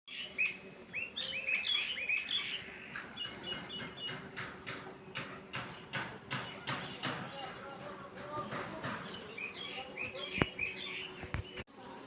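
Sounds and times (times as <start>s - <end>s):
birds chirping: 0.1s - 11.7s.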